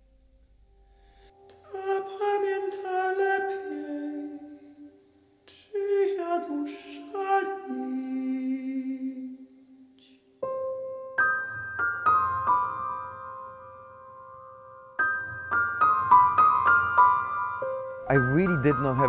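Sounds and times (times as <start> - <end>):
grand piano: 0.0 - 19.0.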